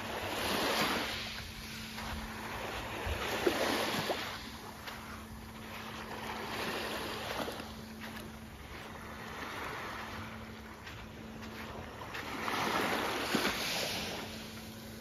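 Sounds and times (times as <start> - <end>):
small waves lapping on shore: 0.0 - 15.0
steady low hum: 0.0 - 15.0.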